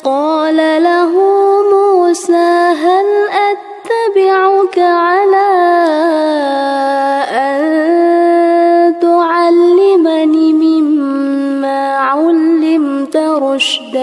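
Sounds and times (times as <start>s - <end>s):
woman reciting in melodic chant: 0.0s - 14.0s.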